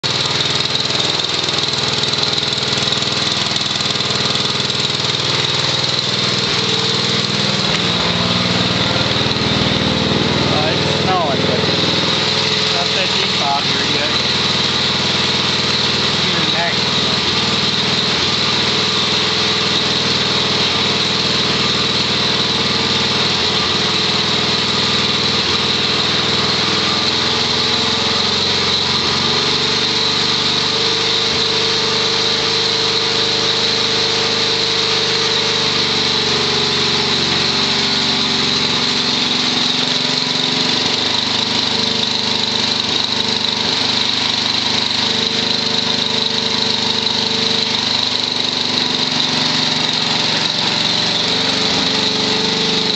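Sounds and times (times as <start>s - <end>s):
small engine running: 0.0s - 52.9s.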